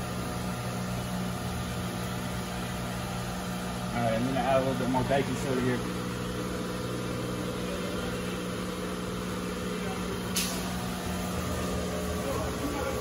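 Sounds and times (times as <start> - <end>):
mechanical hum with droning tones: 0.0 - 13.0.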